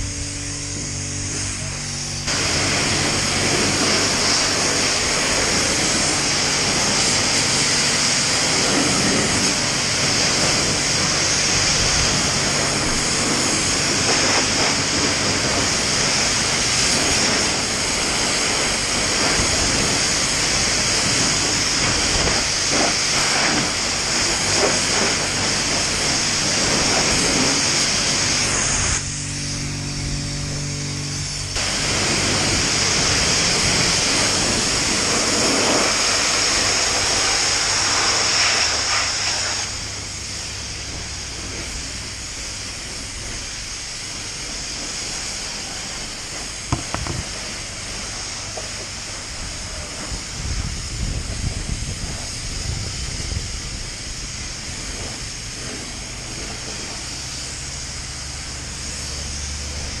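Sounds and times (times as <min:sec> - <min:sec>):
high-pressure water jet hissing: 0:00.0 - 1:00.0.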